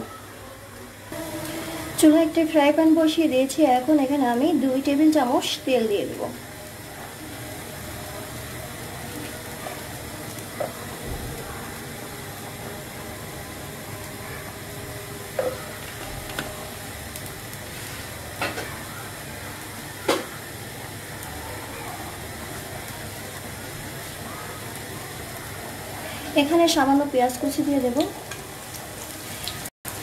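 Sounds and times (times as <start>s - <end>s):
oil hissing and sizzling in pan: 0.9s - 30.0s.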